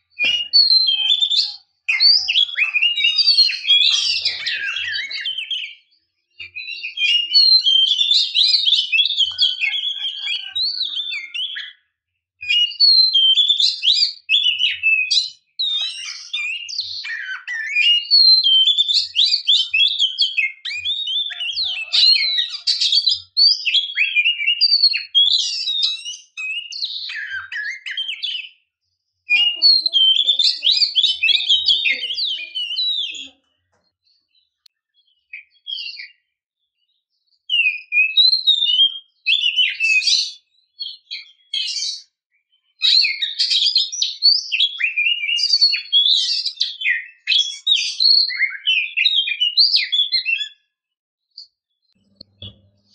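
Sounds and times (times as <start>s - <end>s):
bird singing whistles and trills: 0.0s - 50.8s.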